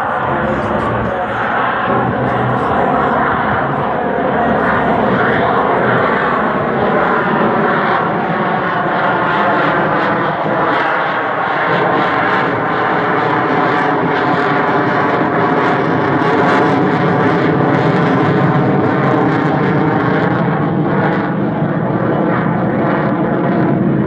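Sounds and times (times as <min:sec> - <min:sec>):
jet engines roaring overhead: 0:00.0 - 0:24.0.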